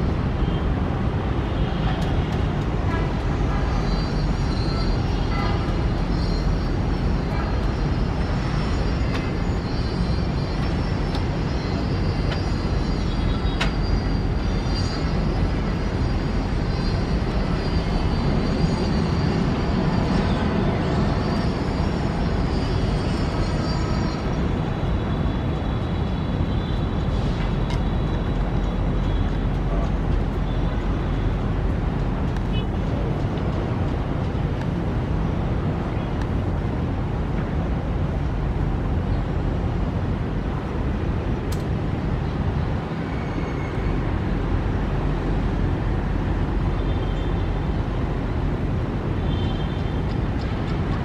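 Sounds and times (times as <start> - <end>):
faint high engine whine: 0.0 - 51.0.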